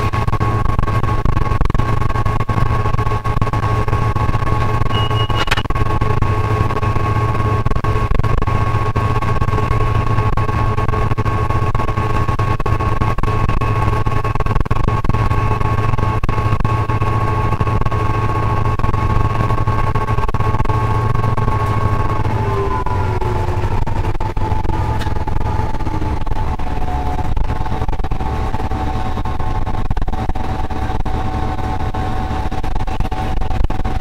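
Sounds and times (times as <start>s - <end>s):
high whining tones: 0.0s - 34.0s
locomotive engine hum: 0.0s - 34.0s
wheels rumbling on rails: 0.0s - 34.0s.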